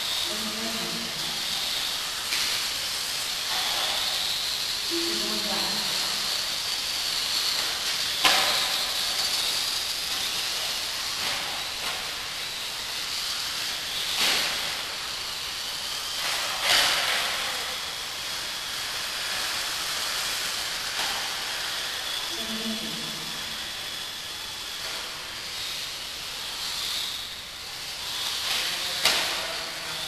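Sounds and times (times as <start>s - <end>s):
model buggy motor whine: 0.0s - 30.0s
tyre and drivetrain hiss: 0.0s - 30.0s.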